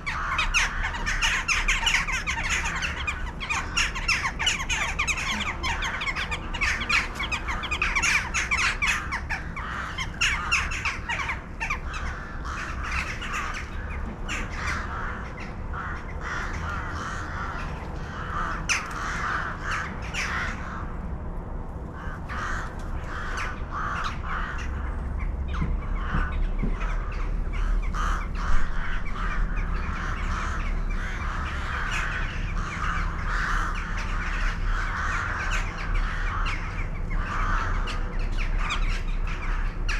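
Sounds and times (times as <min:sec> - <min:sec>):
crows cawing: 0:00.0 - 0:21.1, 0:21.9 - 0:39.9
steady low rumble: 0:00.0 - 0:39.9.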